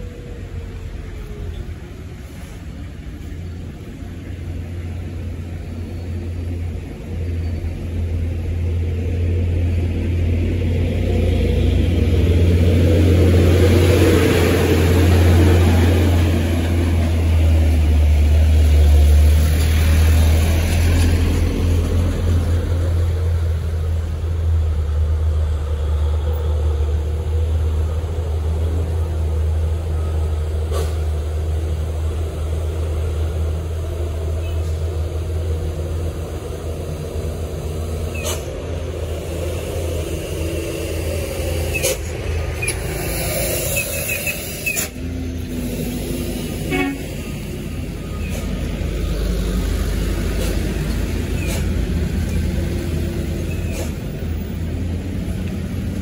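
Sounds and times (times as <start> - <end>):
diesel truck engines rumbling: 0.0 - 56.0.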